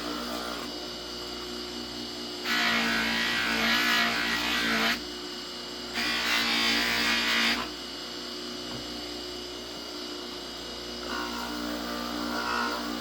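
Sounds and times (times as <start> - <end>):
buffer motor humming: 0.0 - 13.0.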